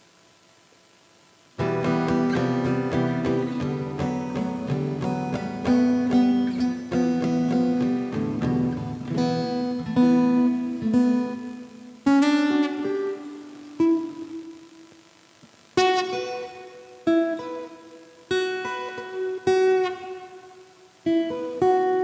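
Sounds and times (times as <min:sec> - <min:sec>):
acoustic guitar playing: 0:01.6 - 0:14.8, 0:15.7 - 0:22.0.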